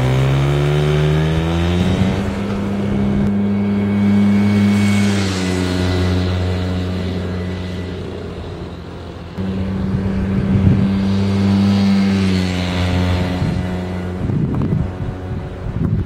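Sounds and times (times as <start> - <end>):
scooter engine revving: 0.0 - 16.0.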